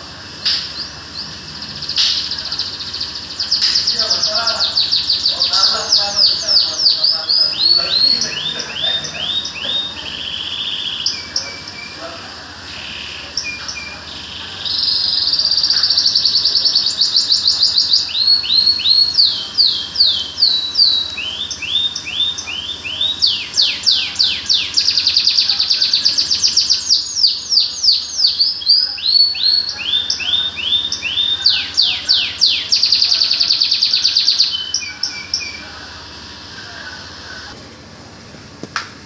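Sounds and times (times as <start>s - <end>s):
canary singing trills: 0.0s - 37.6s.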